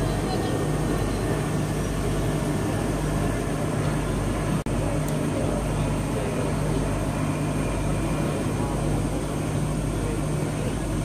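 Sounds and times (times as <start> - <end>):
low even hum: 0.0 - 11.0
outdoor background din: 0.0 - 11.0.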